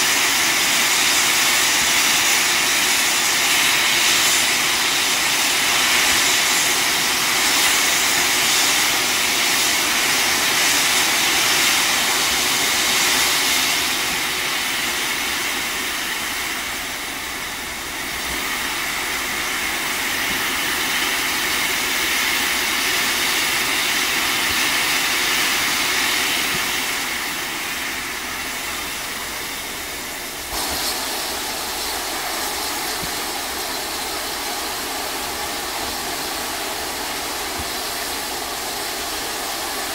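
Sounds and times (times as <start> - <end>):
steam locomotive hissing steam: 0.0 - 39.9.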